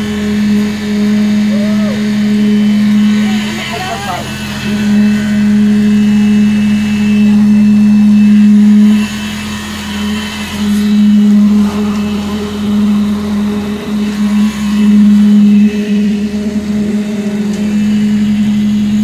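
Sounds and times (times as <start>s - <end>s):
concrete vibrator humming: 0.0s - 19.0s.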